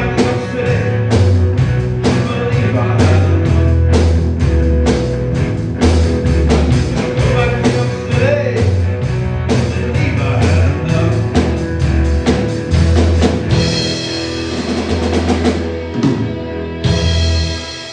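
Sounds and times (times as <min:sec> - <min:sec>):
bass drum: 0:00.0 - 0:16.2
electric guitar: 0:00.0 - 0:17.9
rock band playing: 0:00.0 - 0:17.9.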